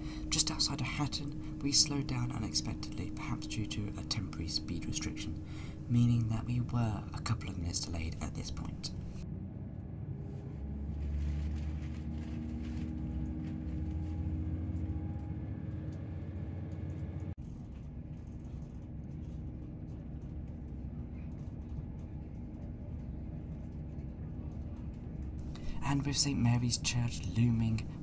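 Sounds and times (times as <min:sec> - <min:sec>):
train cabin drone and rumble: 0:00.0 - 0:28.0.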